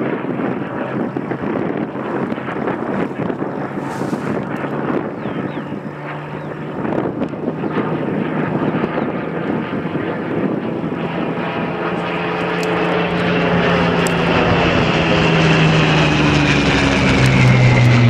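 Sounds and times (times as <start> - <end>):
aircraft engine droning overhead: 0.0 - 18.0.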